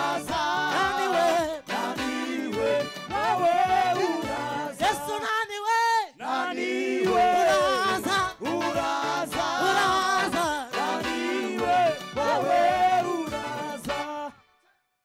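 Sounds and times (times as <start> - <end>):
musical accompaniment: 0.0 - 5.1, 7.0 - 14.6
voices singing together: 0.0 - 14.4.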